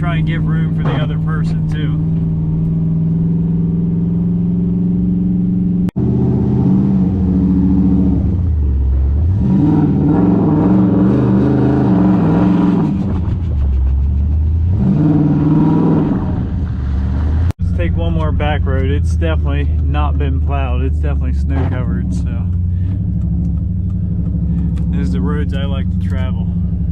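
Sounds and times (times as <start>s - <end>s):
pickup engine revving: 0.0s - 26.9s.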